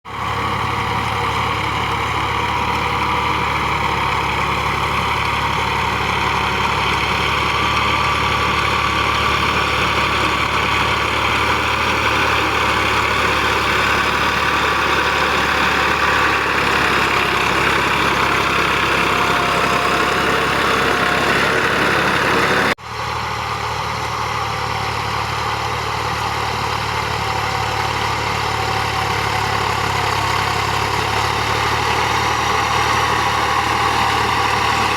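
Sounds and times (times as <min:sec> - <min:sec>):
tractor engine idling: 0:00.0 - 0:34.9.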